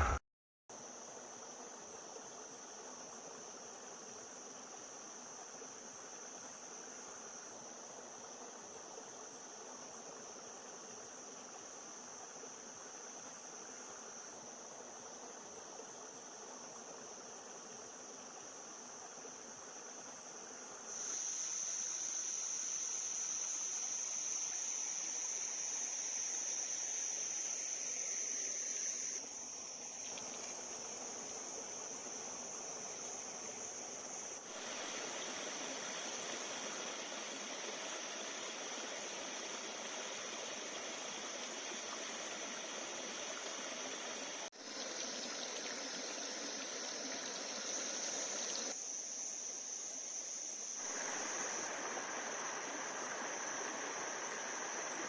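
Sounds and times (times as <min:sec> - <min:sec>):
high-pitched insect chorus: 0:00.0 - 0:55.0
flowing stream water: 0:00.8 - 0:48.8, 0:50.8 - 0:55.0.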